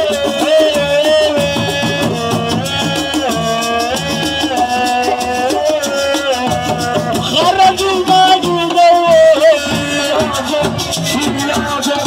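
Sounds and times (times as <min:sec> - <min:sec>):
fast shaker rhythm: 0:00.0 - 0:12.0
steady drums: 0:00.0 - 0:12.0.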